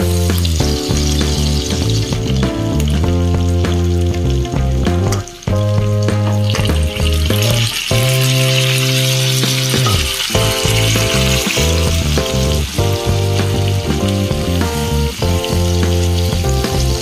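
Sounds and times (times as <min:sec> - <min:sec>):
background music: 0:00.0 - 0:17.0
meat hitting hot pan: 0:00.0 - 0:17.0
oil sizzling and hissing: 0:00.0 - 0:17.0.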